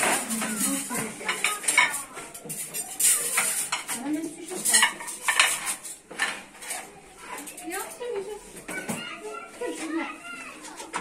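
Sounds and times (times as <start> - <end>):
plates and trays clattering: 0.0 - 11.0.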